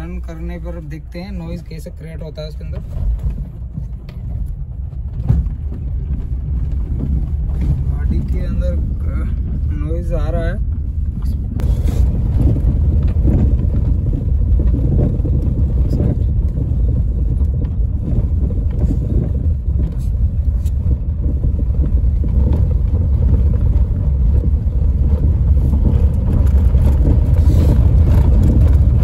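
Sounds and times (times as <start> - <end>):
low rumble from car steering: 0.0 - 29.0.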